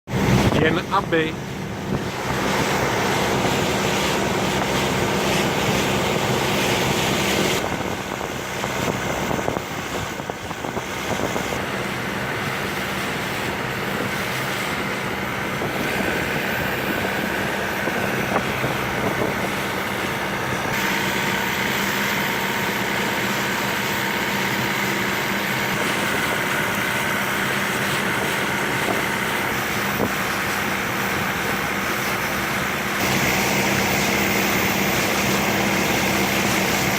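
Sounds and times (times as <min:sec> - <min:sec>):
boat engine running: 0:00.0 - 0:36.9
wind and water rushing: 0:00.1 - 0:36.9.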